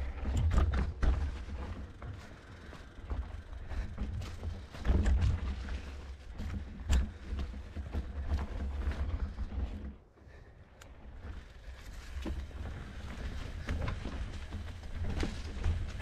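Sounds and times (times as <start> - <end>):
bike rattling and knocking: 0.0 - 10.1, 11.0 - 16.0.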